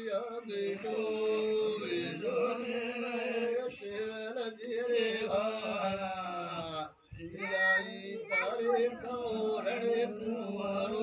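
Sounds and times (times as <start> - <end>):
men chanting prayer: 0.0 - 11.0.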